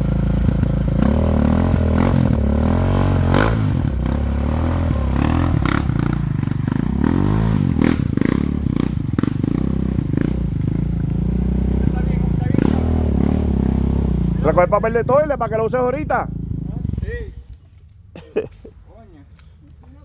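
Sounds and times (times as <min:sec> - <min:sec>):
atv engine revving: 0:00.0 - 0:17.7.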